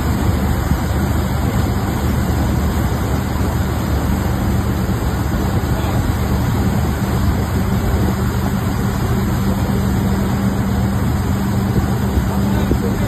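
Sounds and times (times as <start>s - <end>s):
boat engine humming: 0.0s - 13.0s
churning water rushing: 0.0s - 13.0s.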